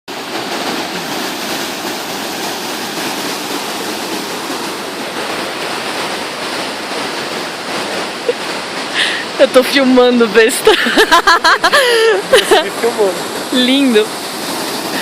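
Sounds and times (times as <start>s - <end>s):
waterfall rushing: 0.1s - 15.0s.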